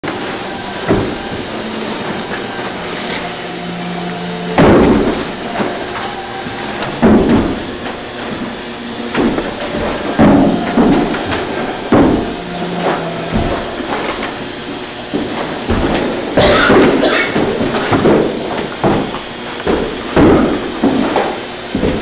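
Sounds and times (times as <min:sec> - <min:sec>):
loud sharp stamping thuds: 0:00.8 - 0:02.8, 0:04.5 - 0:22.0.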